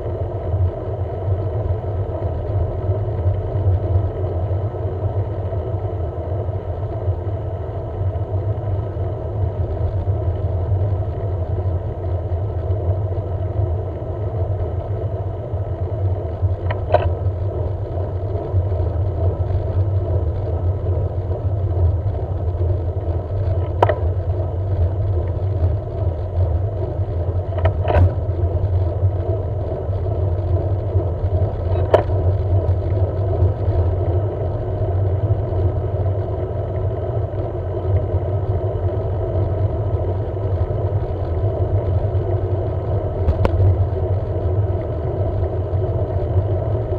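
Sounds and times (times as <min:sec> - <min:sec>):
bicycle tyre noise on road: 0:00.0 - 0:46.9
wind rumble: 0:00.0 - 0:46.9.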